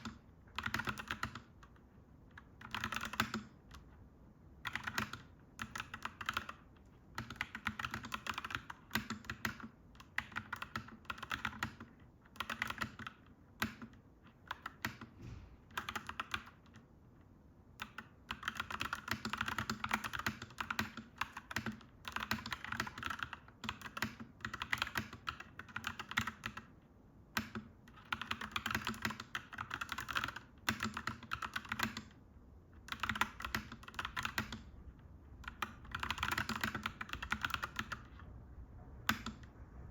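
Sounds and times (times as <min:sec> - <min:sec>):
mechanical keyboard typing: 0:00.0 - 0:04.0, 0:04.6 - 0:15.1, 0:15.7 - 0:16.9, 0:17.7 - 0:26.7, 0:27.3 - 0:32.2, 0:32.8 - 0:34.7, 0:35.4 - 0:38.2, 0:39.0 - 0:39.5.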